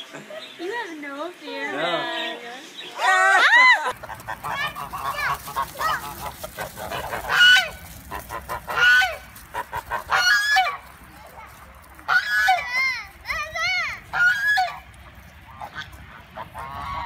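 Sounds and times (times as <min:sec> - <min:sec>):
geese honking: 0:01.7 - 0:11.0, 0:11.8 - 0:17.0.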